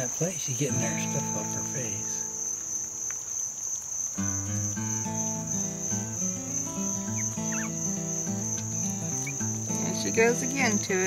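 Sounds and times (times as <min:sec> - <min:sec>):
soft music of held notes: 0:00.0 - 0:03.2, 0:04.2 - 0:11.0
insects trilling: 0:00.0 - 0:11.0.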